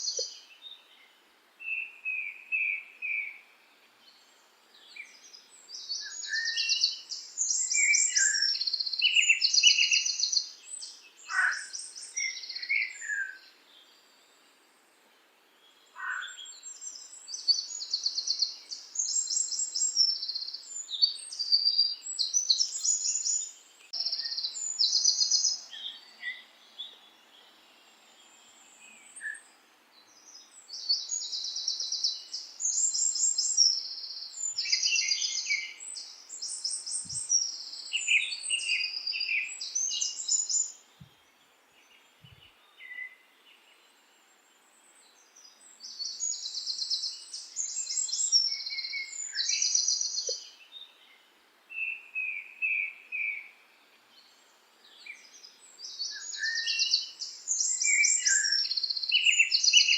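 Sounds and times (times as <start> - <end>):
faint background hiss: 0.0 - 59.9
songbirds trilling: 4.1 - 13.9, 15.6 - 43.8, 44.8 - 51.2, 54.2 - 59.9.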